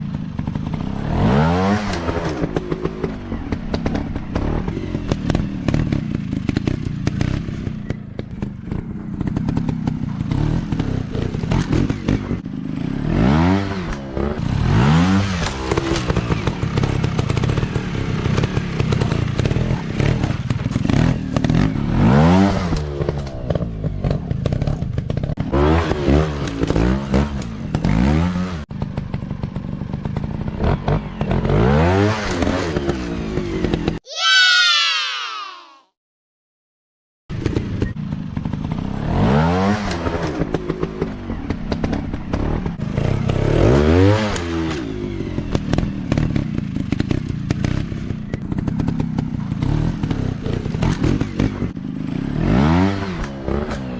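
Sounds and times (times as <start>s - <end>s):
clatter: 0.0s - 34.0s, 37.3s - 53.9s.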